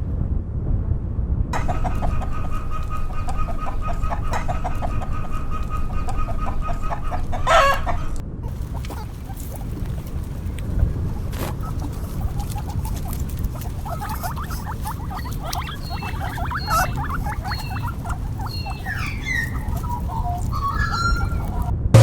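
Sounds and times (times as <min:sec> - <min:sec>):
steady low rumble: 0:00.0 - 0:22.0
small animals squeaking: 0:01.6 - 0:22.0.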